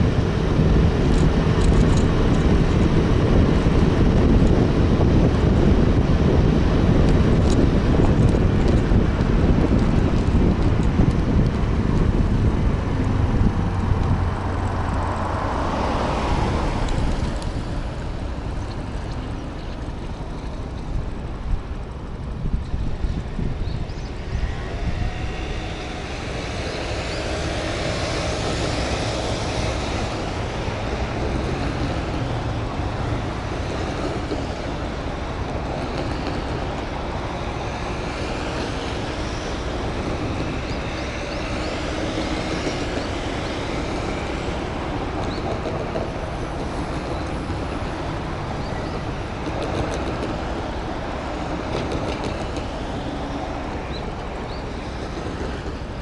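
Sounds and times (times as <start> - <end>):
cars and scooter passing: 0.0 - 56.0
low traffic rumble: 0.0 - 56.0.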